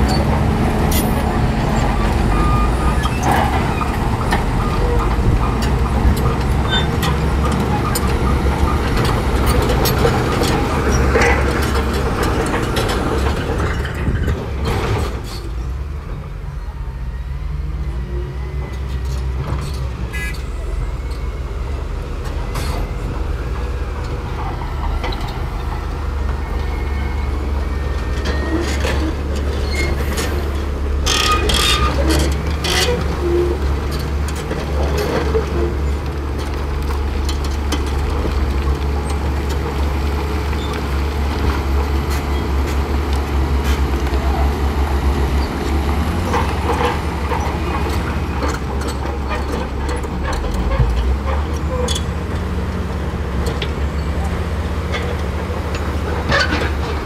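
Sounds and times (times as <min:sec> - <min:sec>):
bulldozer diesel engine running: 0:00.0 - 0:57.0
steel tracks clanking and squeaking: 0:00.0 - 0:57.0.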